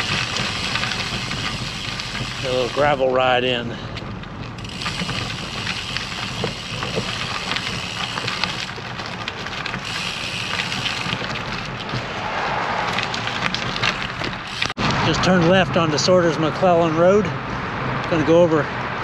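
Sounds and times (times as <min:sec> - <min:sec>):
bicycle tyres crunching gravel: 0:00.0 - 0:15.2.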